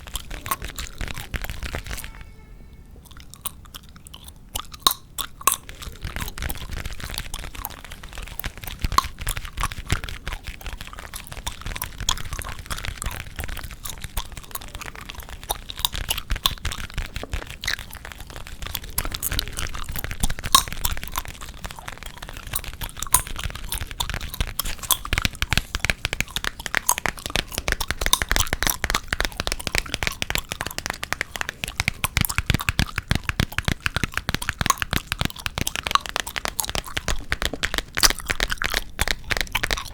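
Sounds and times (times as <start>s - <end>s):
gum chewing wet snaps: 0.0s - 2.2s, 2.9s - 39.9s.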